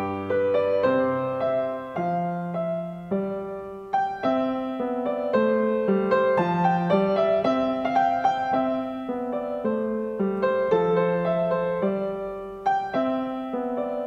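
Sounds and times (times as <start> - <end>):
solo piano melody: 0.0 - 14.0.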